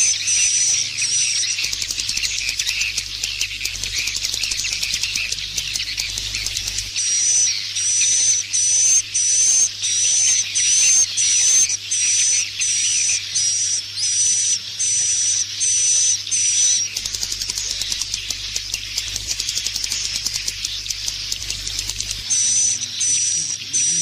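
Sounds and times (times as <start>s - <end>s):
fast clicking twitter: 0.0s - 24.0s
high hissy bird chirps: 0.0s - 24.0s.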